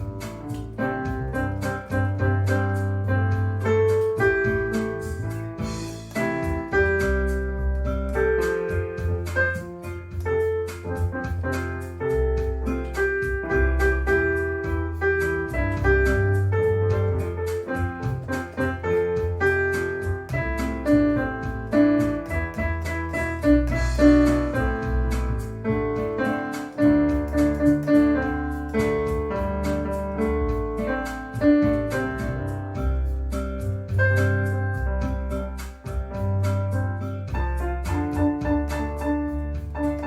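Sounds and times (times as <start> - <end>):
electric piano melody: 0.0 - 40.0.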